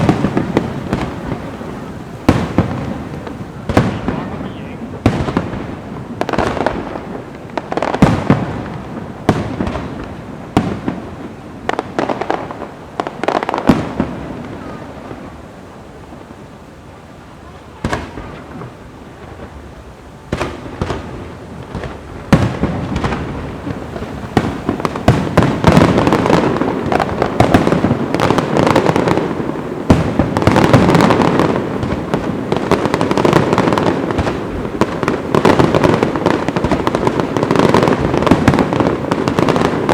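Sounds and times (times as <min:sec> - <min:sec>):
fireworks bangs: 0:00.0 - 0:39.9
fireworks crackling and popping: 0:00.0 - 0:39.9.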